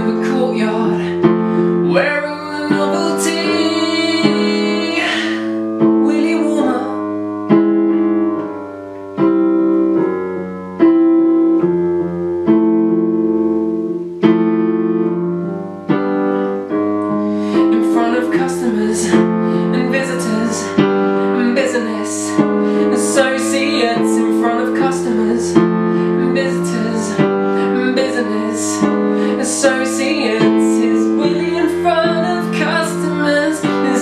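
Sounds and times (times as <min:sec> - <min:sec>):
electronic keyboard piano chords: 0:00.0 - 0:34.0.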